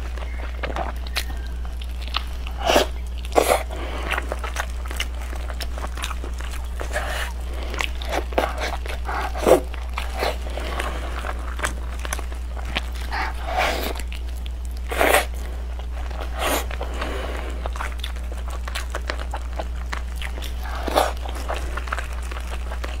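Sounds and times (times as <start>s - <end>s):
low hum: 0.0s - 23.0s
person chewing and lip-smacking: 0.0s - 23.0s.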